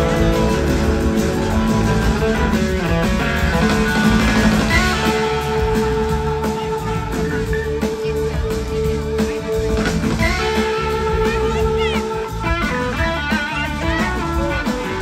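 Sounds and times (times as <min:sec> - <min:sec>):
electric guitar: 0:00.0 - 0:15.0
live blues-rock band: 0:00.0 - 0:15.0.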